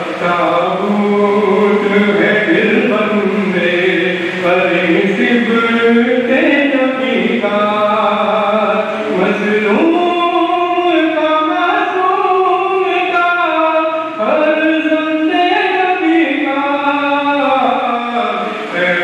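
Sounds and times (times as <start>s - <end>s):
voices chanting a lament: 0.0s - 19.0s.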